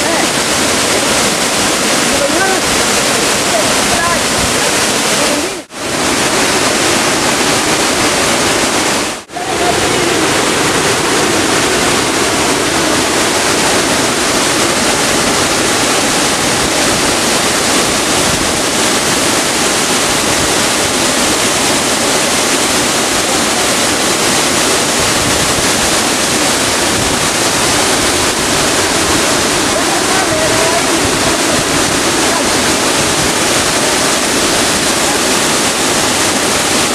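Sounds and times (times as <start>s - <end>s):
waterfall rushing into pool: 0.0s - 36.9s.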